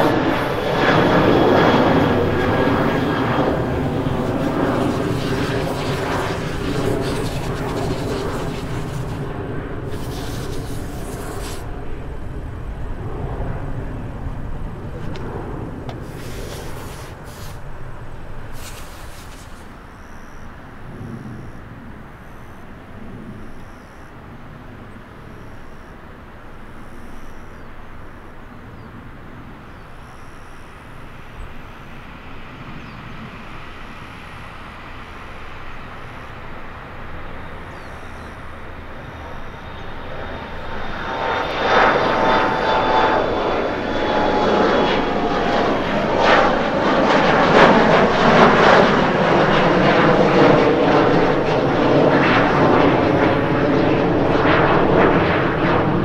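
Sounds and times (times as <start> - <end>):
jet plane taking off: 0.0 - 56.0.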